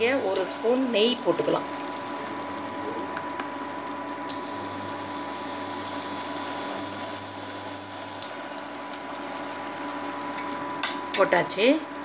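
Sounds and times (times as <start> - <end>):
cooktop fan hum: 0.0 - 12.0.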